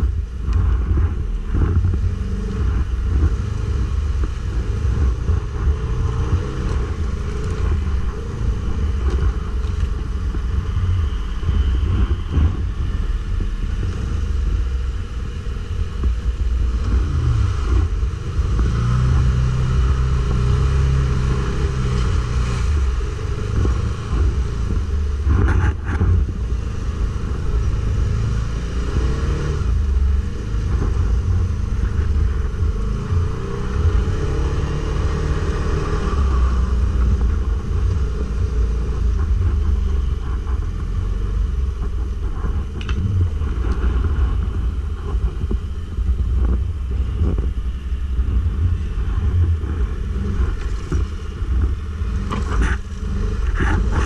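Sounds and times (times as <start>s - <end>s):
atv engine rumbling: 0.0s - 54.0s.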